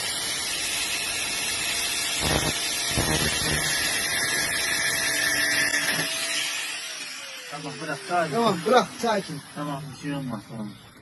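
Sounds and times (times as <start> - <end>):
angle grinder cutting metal: 0.0 - 11.0.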